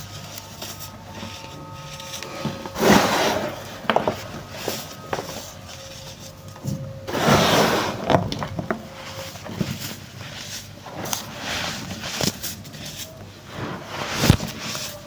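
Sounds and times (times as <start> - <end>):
baking soda chunks crunching: 0.0 - 15.0.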